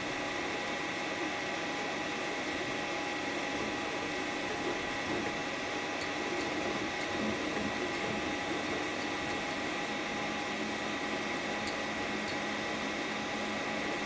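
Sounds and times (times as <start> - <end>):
steady whine: 2.6 - 14.0.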